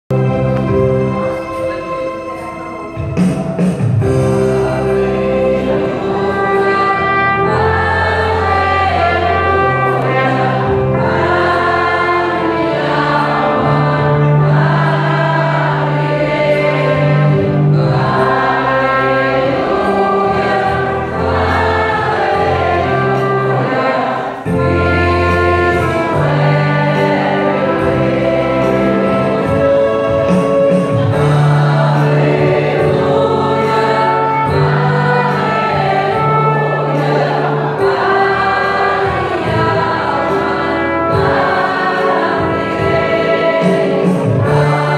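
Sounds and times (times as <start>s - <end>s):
keyboard chords: 0.1s - 44.9s
trumpet: 0.1s - 44.9s
voices singing a hymn: 4.0s - 44.9s.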